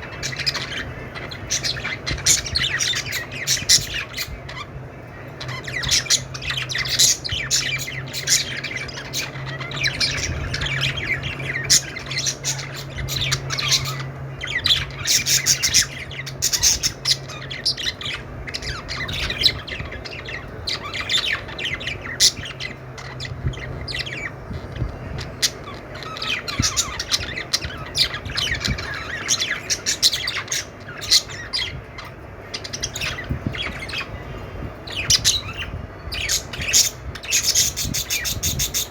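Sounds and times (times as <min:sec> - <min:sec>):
budgies chirping and squawking: 0:00.0 - 0:38.9
steady low hum: 0:00.0 - 0:38.9.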